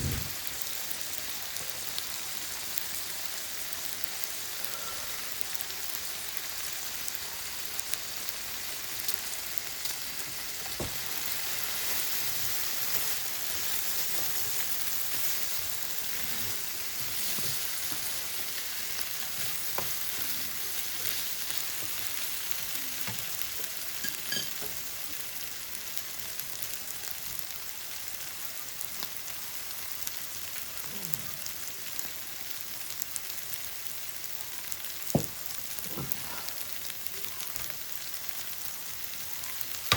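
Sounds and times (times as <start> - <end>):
noodles sizzling: 0.0 - 39.9.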